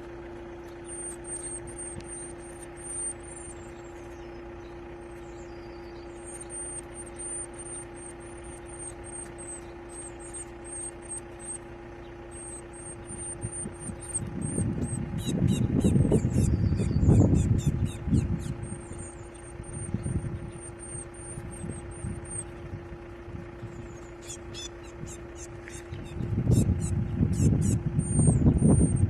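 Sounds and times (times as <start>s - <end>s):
low engine hum: 0.0s - 29.0s
high thin bird chirps: 0.6s - 22.8s, 23.6s - 29.0s.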